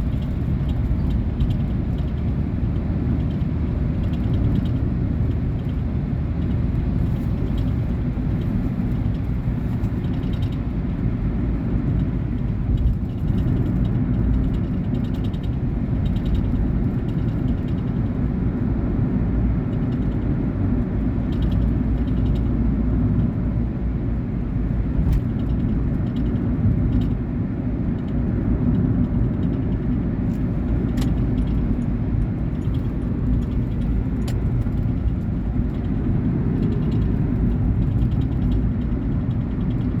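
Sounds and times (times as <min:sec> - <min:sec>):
engine and road rumble: 0:00.0 - 0:40.0.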